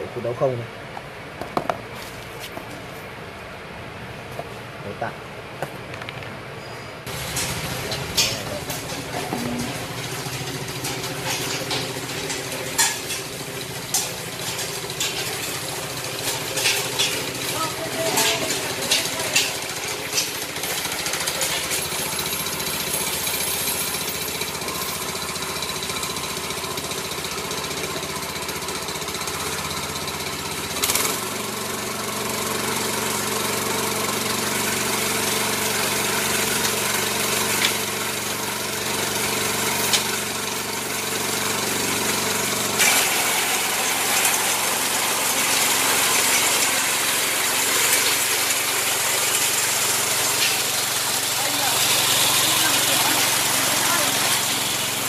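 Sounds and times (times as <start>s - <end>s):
small petrol engine running: 7.0s - 55.0s.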